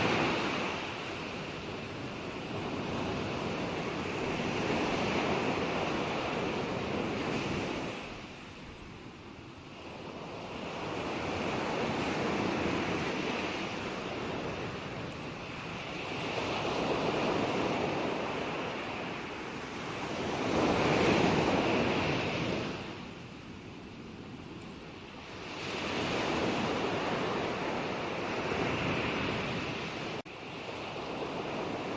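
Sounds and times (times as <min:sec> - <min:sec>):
ocean waves breaking: 0:00.0 - 0:08.8, 0:09.7 - 0:23.3, 0:24.8 - 0:31.9.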